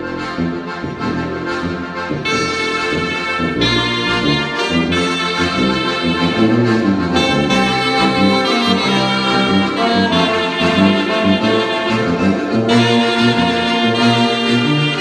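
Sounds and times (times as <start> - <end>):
small ensemble playing a hymn: 0.0 - 15.0
tuba bass line: 0.0 - 15.0.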